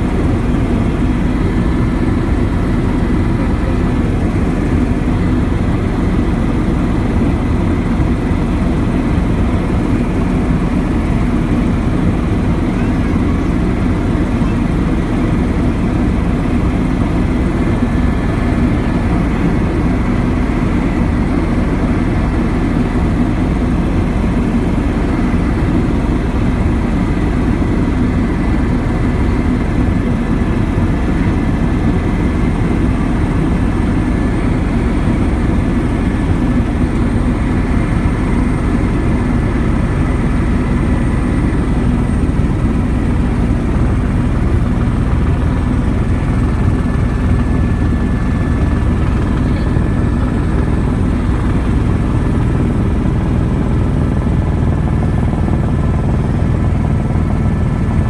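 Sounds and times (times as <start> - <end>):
small aircraft engine drone: 0.0 - 58.0.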